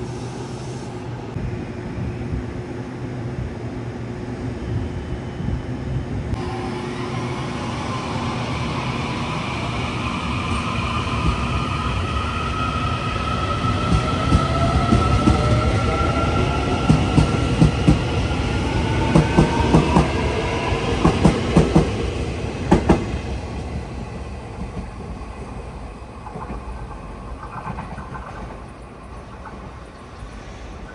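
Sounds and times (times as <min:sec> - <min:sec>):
train passing: 0:00.0 - 0:30.9.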